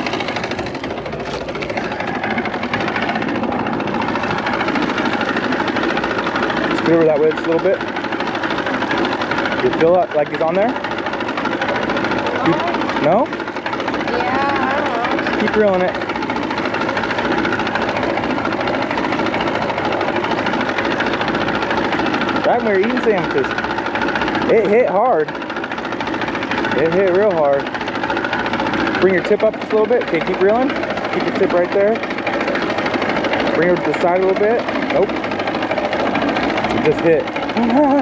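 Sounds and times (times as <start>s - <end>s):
boat motor running: 0.0s - 38.0s.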